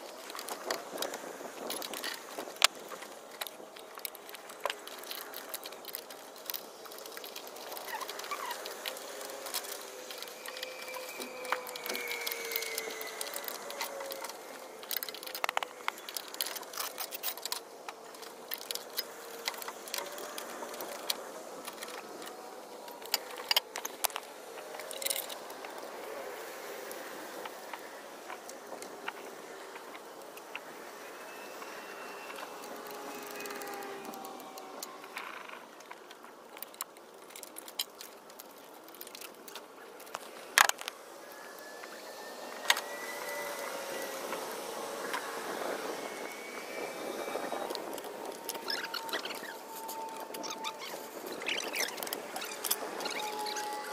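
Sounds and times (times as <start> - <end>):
small hard objects clicking and rattling: 0.0 - 53.9.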